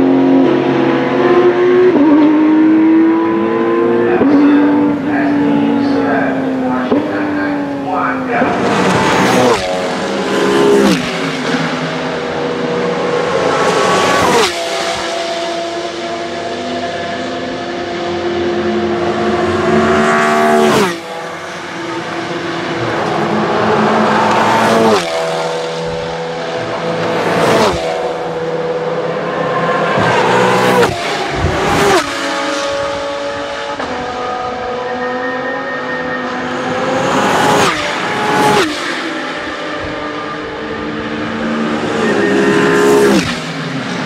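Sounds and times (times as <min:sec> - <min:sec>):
race cars passing at full throttle: 0:00.0 - 0:44.0.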